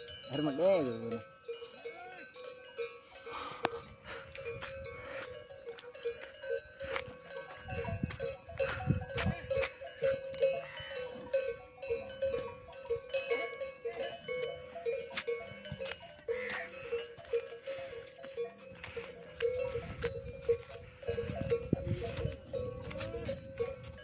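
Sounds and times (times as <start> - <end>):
livestock bells clanking: 0.0 - 24.0.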